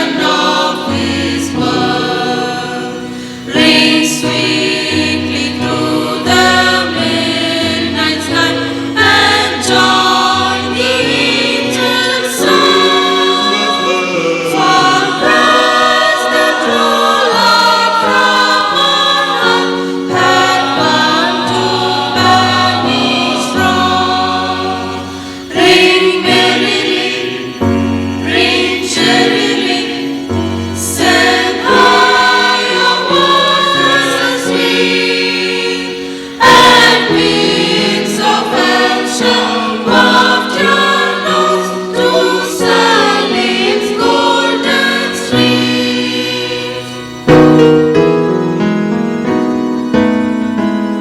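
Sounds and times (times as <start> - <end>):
church choir singing: 0.0 - 51.0.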